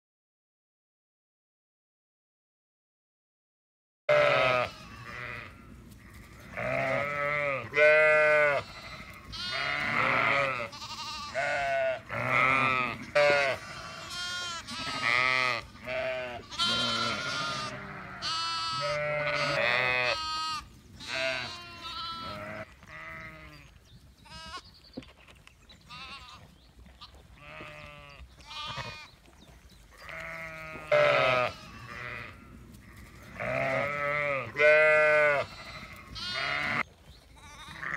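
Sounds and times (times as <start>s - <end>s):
sheep bleating: 4.1s - 25.3s, 25.9s - 29.2s, 30.0s - 37.9s.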